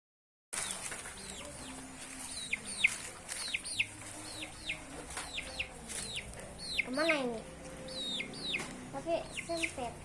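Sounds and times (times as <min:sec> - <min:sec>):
chicken peeping: 0:00.6 - 0:09.9.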